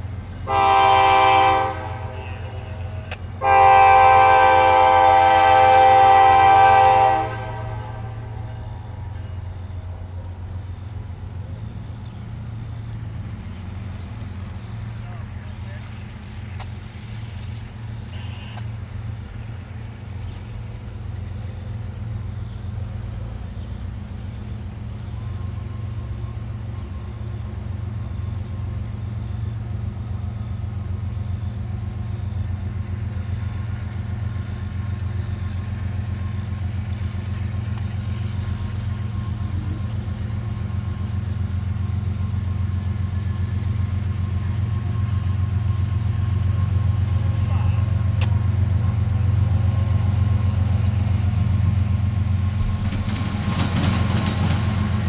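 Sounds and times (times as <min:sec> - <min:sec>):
diesel locomotive rumble: 0:00.0 - 0:55.0.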